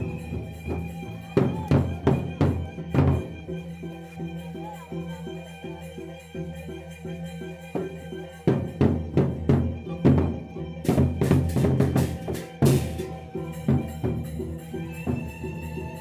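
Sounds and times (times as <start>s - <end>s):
flute melody: 0.0s - 16.0s
repeating percussion: 0.0s - 16.0s.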